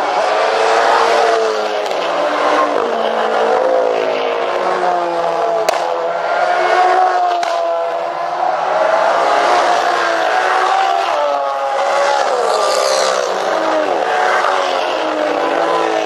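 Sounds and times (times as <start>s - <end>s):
race cars passing: 0.0s - 16.0s.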